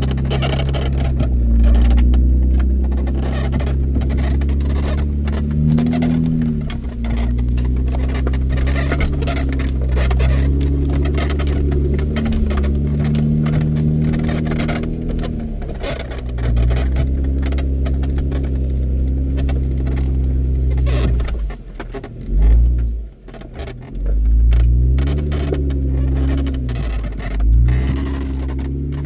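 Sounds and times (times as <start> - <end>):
knocks and rattles: 0.0 - 29.0
off-road vehicle engine revving: 0.0 - 29.0.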